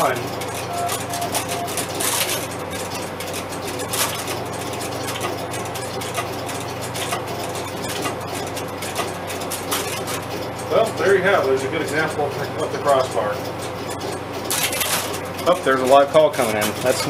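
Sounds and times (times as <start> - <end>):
steady hum: 0.0 - 15.7.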